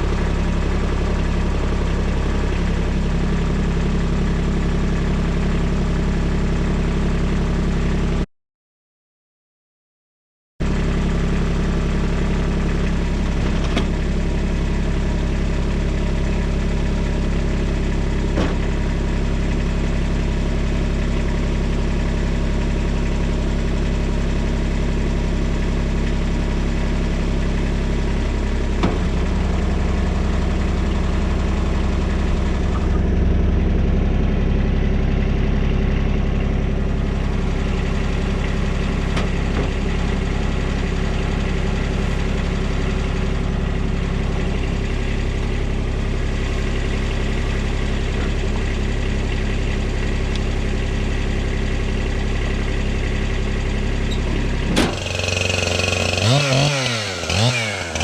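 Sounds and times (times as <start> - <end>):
excavator engine running: 0.0 - 8.2, 10.6 - 58.0.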